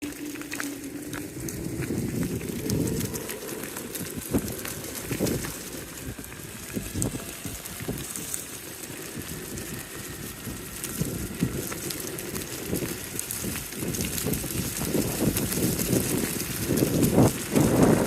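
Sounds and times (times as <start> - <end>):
skateboard wheels rolling over dirt: 0.0 - 18.0
wind buffeting microphone: 0.0 - 18.0.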